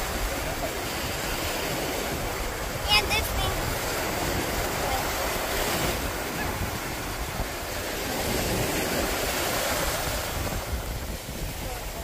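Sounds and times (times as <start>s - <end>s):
ocean surf on beach: 0.0s - 12.0s
wind on microphone: 0.0s - 12.0s.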